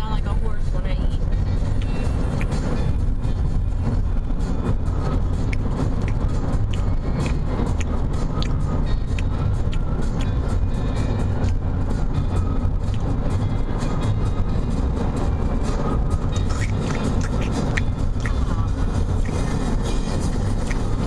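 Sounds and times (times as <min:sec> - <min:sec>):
car interior road and engine noise: 0:00.0 - 0:21.0.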